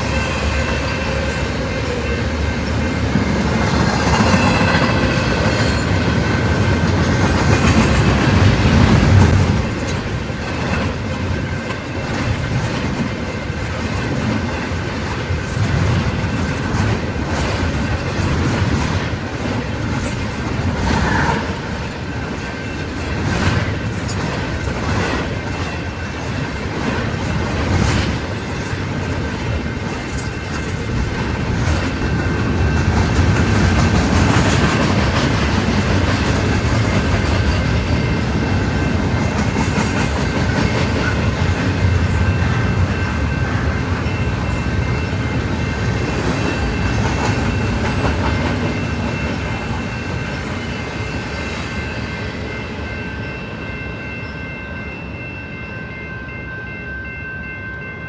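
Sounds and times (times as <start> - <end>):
train wheels clicking over rails: 0.0 - 50.6.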